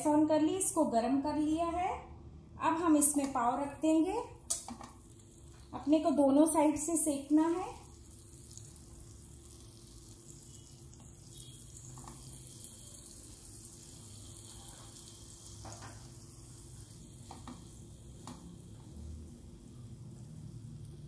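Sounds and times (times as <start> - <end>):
buns sizzling in a pan: 3.0 - 21.0.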